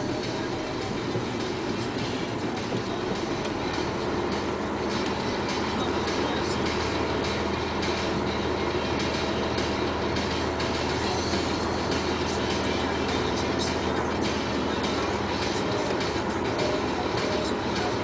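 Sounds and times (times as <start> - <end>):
excavator engine and hydraulic drone: 0.0 - 18.0.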